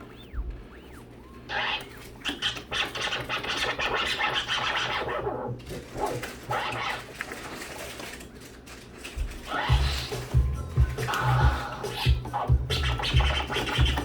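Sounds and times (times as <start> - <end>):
turntable scratching: 0.0 - 7.1, 9.5 - 14.0.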